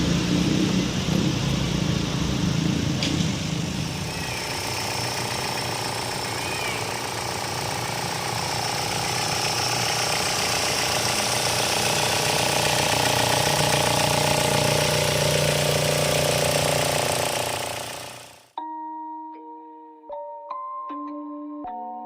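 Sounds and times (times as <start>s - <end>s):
car engine running: 0.0s - 18.5s.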